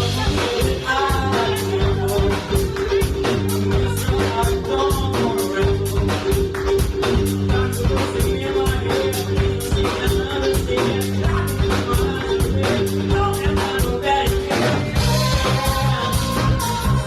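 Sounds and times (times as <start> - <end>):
funk band playing: 0.0 - 17.0
person singing: 0.0 - 17.0.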